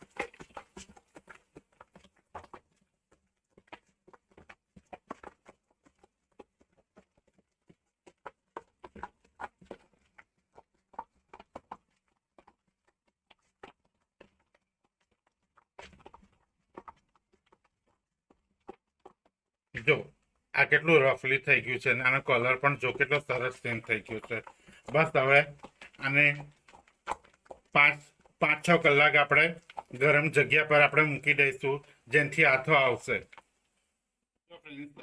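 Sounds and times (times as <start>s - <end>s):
batter beaten by hand in bowl: 0.0s - 33.8s.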